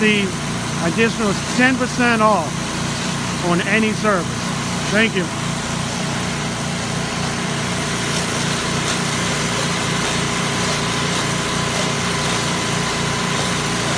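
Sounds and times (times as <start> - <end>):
small engine running: 0.0 - 13.9.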